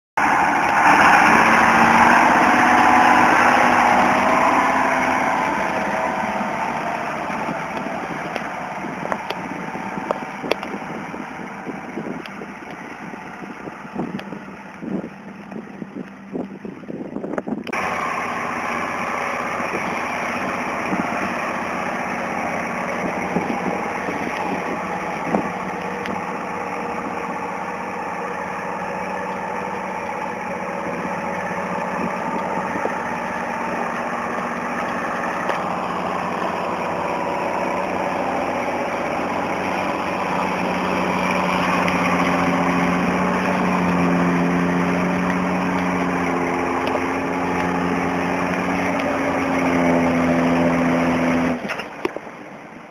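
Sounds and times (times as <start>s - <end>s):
tractor engine running: 0.2s - 52.9s.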